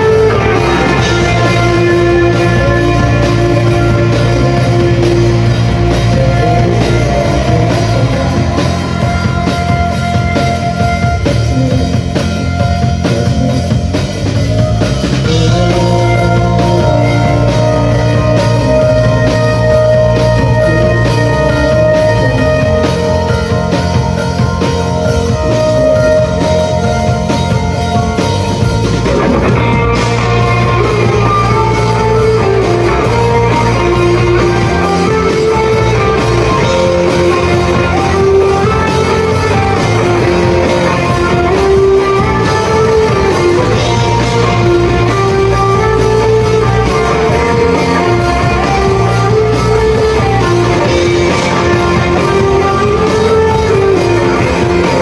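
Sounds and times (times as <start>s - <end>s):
guitar melody: 0.0s - 55.0s
live rock band playing: 0.0s - 55.0s.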